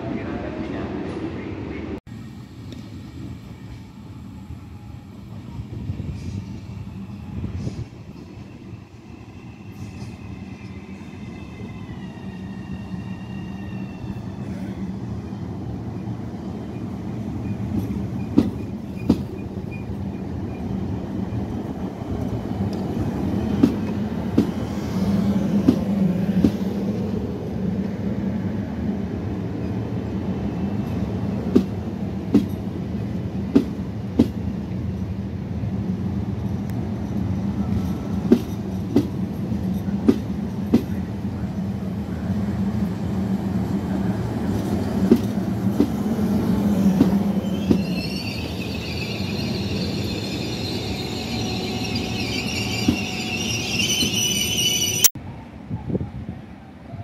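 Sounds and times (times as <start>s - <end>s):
electric train rumble and hum: 0.0s - 57.0s.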